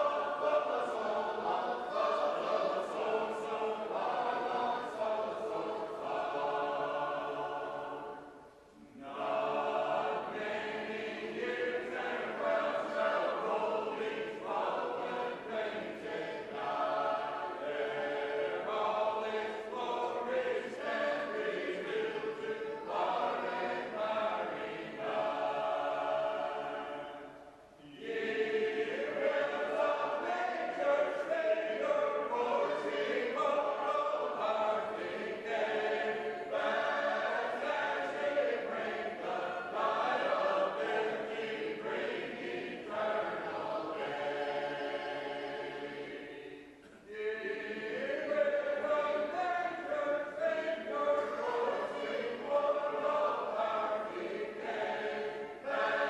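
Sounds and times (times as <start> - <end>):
group singing a hymn a cappella: 0.0 - 56.0.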